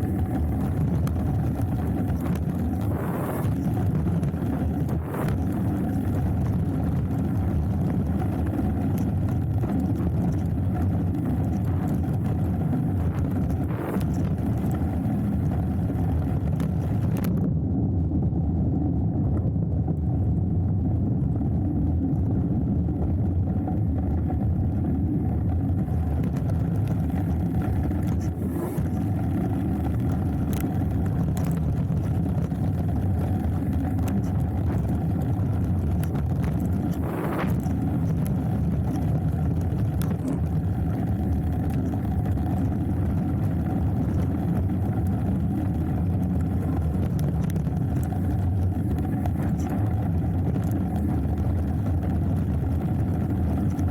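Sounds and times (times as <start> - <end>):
bike rattling over bumps: 0.0 - 17.4, 23.3 - 53.9
bike tyre rumble on dirt: 0.0 - 17.5, 20.1 - 53.9
wind buffeting microphone: 0.0 - 53.9.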